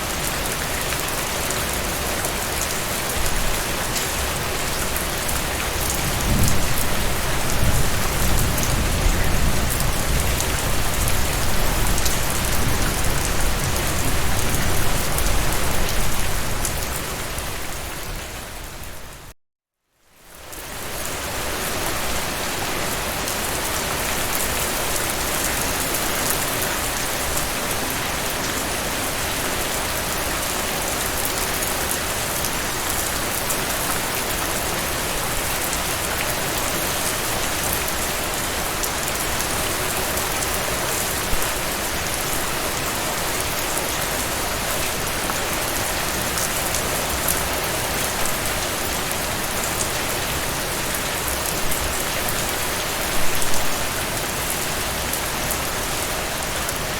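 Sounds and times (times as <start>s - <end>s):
heavy rain falling: 0.0s - 19.3s, 20.5s - 56.9s.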